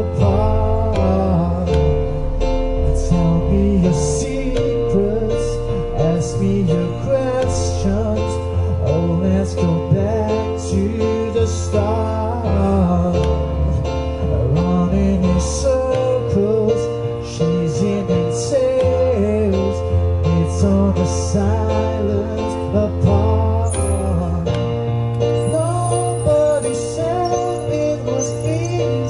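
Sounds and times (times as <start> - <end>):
slow instrumental ballad: 0.0 - 29.0.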